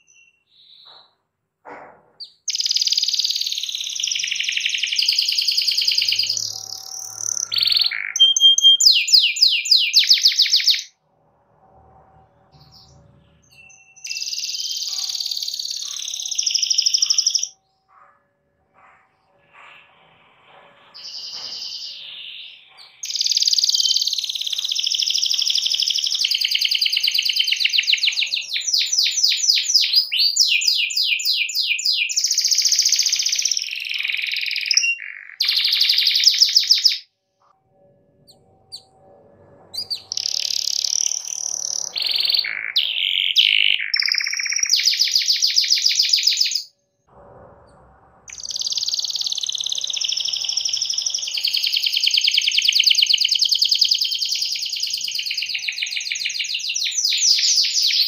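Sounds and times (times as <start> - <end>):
canary singing: 0.0 - 11.0, 11.7 - 18.2, 20.5 - 37.0, 38.1 - 46.7, 48.3 - 58.0.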